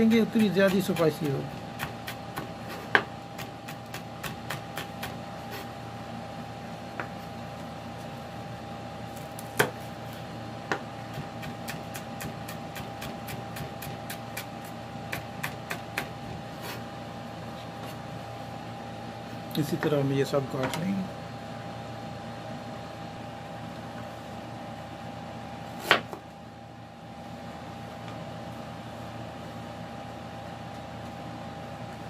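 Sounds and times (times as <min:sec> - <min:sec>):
faint hum: 0:00.0 - 0:32.0.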